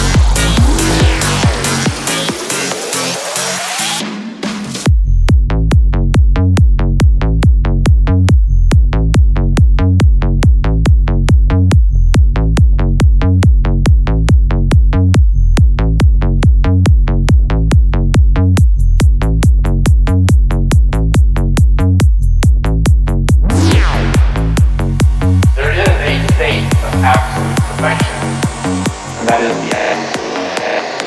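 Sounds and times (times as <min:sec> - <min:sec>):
electronic kick drum: 0:00.0 - 0:03.0, 0:04.8 - 0:31.0
pulsing bass: 0:00.0 - 0:04.1, 0:04.8 - 0:31.0.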